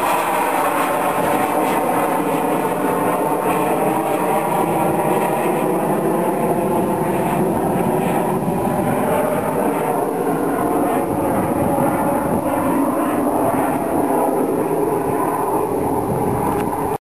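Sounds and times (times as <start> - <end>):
jets flying over: 0.0 - 17.0.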